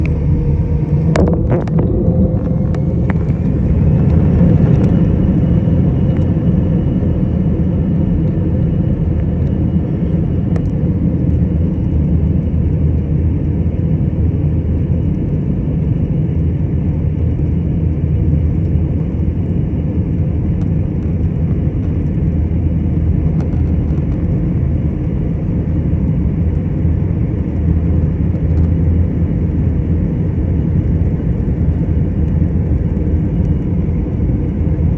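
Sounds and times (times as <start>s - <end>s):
jet engine rumble: 0.0s - 34.9s
jet engines whining: 0.0s - 34.9s.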